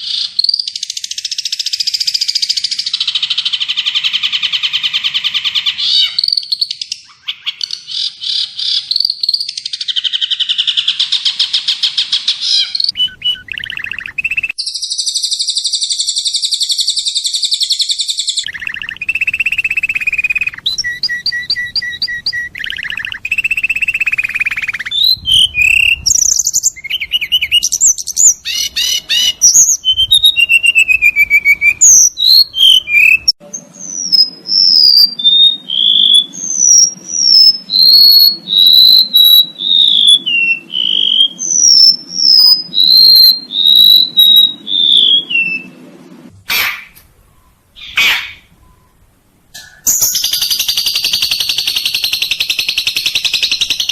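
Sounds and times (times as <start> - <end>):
songbird warbling trills: 0.0 - 45.7, 46.5 - 53.9
bird chirps and whistles: 0.0 - 45.8, 46.5 - 49.0, 49.6 - 53.9
loud buzzy bird trill: 0.0 - 53.9.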